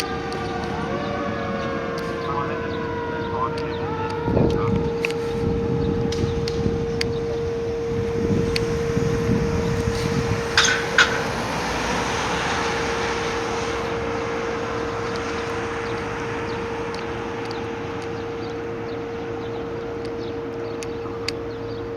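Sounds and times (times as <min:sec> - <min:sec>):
heavy engine rumble: 0:00.0 - 0:21.9
road noise: 0:00.0 - 0:21.9.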